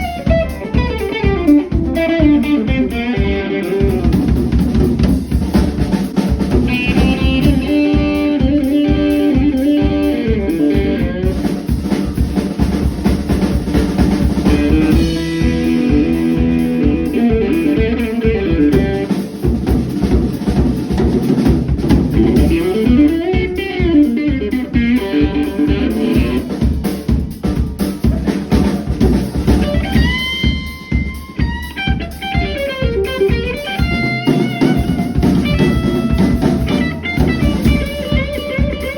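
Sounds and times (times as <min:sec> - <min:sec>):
drum kit groove: 0:00.0 - 0:38.9
guitar: 0:00.0 - 0:38.9.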